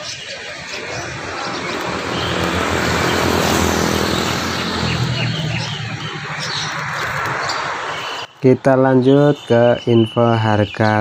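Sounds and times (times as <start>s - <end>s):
high bird chirps: 0.0s - 11.0s
traffic rumble and hiss: 0.0s - 11.0s.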